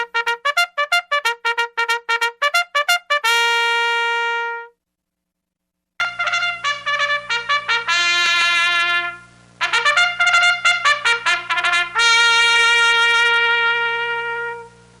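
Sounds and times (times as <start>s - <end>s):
bugle call: 0.0s - 4.7s, 6.0s - 14.8s.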